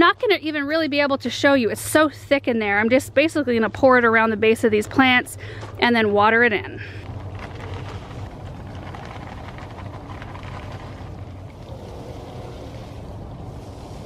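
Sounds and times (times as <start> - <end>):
low hum: 0.2 - 14.0.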